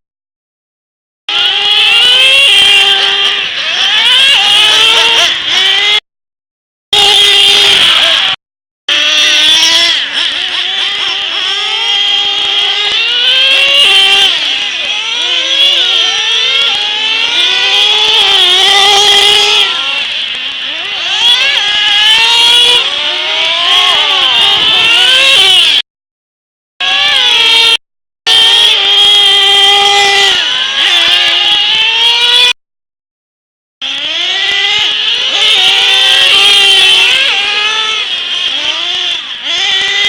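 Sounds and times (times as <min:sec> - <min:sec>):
radio-controlled car motors whining: 0:01.3 - 0:06.0, 0:07.0 - 0:25.8, 0:26.8 - 0:32.6, 0:33.8 - 0:40.0.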